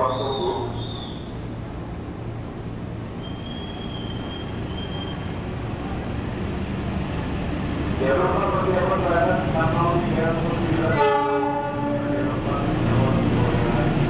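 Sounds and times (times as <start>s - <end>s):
diesel locomotive engine rumble: 0.0s - 14.0s.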